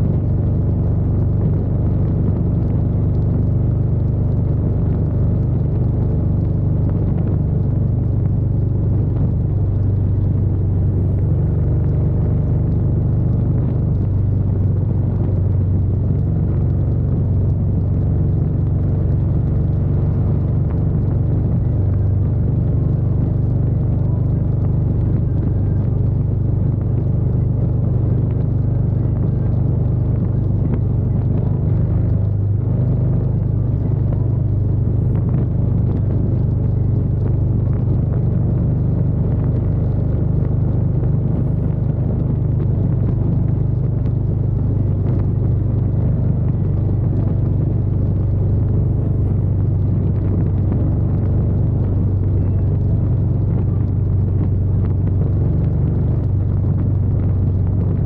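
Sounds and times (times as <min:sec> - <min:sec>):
motorcycle engine droning: 0:00.0 - 0:58.0
wind and road noise: 0:00.0 - 0:58.0.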